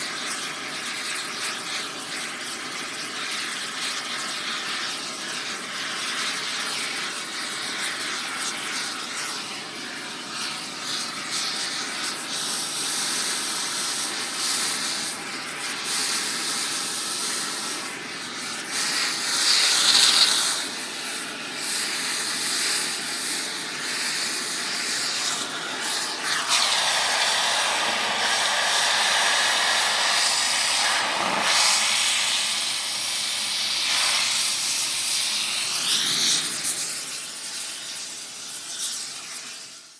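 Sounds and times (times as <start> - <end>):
air torch hissing: 7.4 - 39.9.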